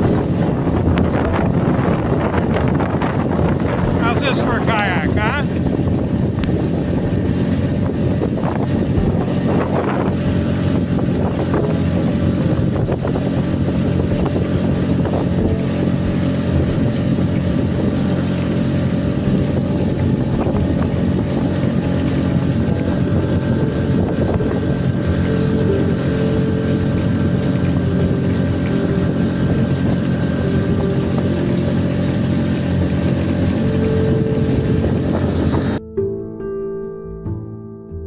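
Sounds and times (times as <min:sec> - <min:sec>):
small outboard motor running: 0:00.0 - 0:35.8
wind buffeting microphone: 0:00.0 - 0:35.8.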